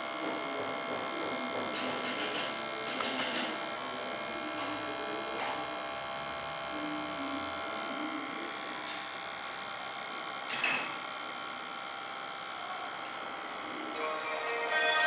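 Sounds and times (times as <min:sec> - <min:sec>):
electrical hum and whine: 0:00.0 - 0:15.0.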